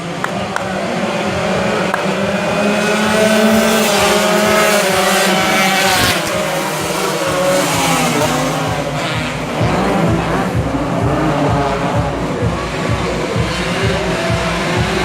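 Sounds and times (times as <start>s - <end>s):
racing motorcycles at high revs: 0.0s - 15.0s.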